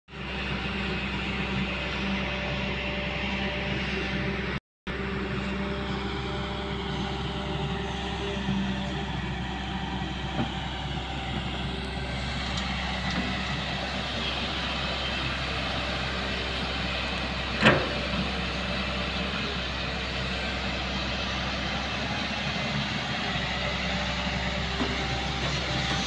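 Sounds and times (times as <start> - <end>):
excavator diesel engine running: 0.1 - 26.0.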